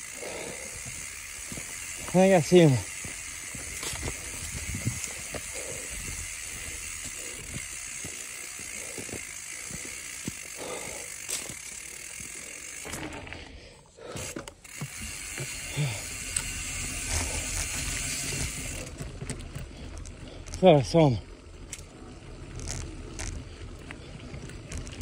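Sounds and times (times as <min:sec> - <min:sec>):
freewheel ratchet clicking: 0:00.0 - 0:13.1, 0:14.2 - 0:23.5
bike tyre and rattle noise: 0:00.0 - 0:25.0.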